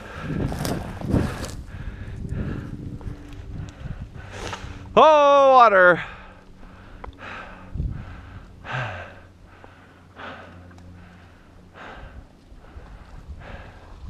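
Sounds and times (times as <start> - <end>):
person breathing hard: 0.0 - 4.9, 6.0 - 14.0.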